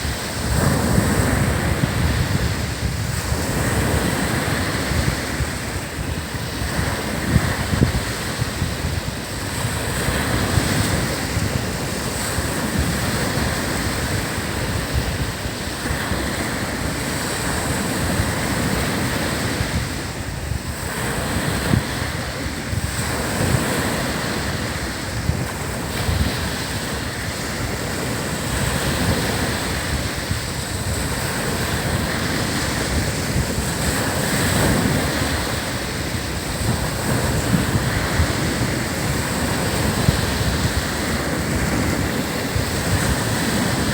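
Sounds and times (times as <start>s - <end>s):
ocean waves breaking on beach: 0.0s - 43.9s
wind buffeting microphone: 0.0s - 43.9s.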